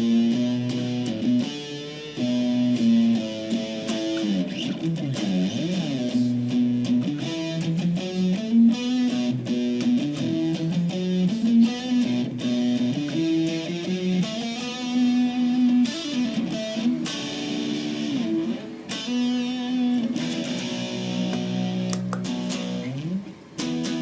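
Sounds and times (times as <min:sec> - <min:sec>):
overdriven electric guitar: 0:00.0 - 0:24.0.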